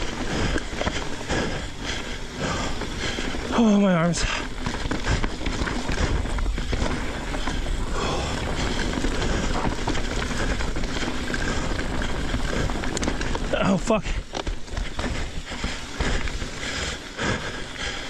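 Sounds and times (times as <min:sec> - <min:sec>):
bike rattling over rough ground: 0:00.0 - 0:18.0
bike tyre noise on dirt: 0:00.0 - 0:18.0
wind rush on microphone: 0:00.0 - 0:18.0.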